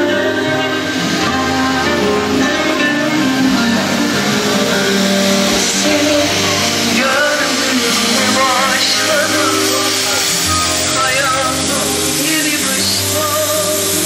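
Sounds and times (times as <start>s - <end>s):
music with held notes: 0.0s - 14.0s
wavering melody line: 0.0s - 14.0s.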